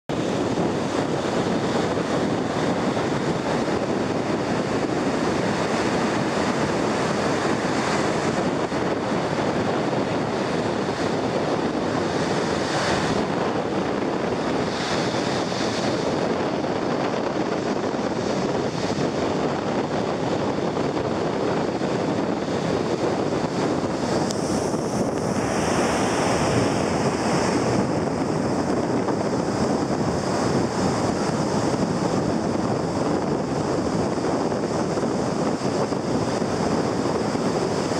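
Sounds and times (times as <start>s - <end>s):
ocean waves washing up beach: 0.1s - 37.9s
wind on microphone: 0.1s - 37.9s.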